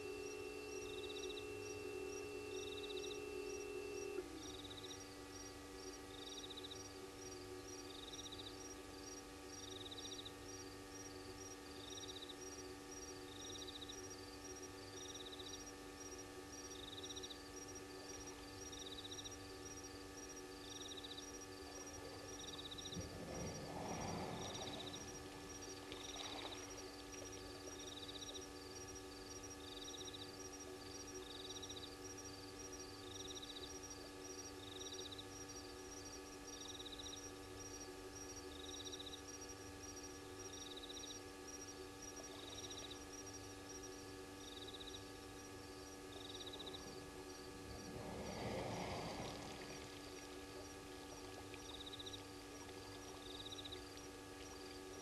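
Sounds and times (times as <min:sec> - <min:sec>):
insect high chirp: 0:00.0 - 0:55.0
steady hum: 0:00.0 - 0:55.0.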